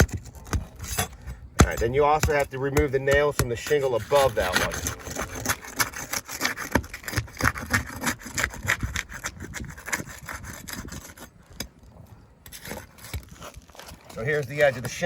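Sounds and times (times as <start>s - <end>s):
tool scraping under roof shingles: 0.0s - 15.0s.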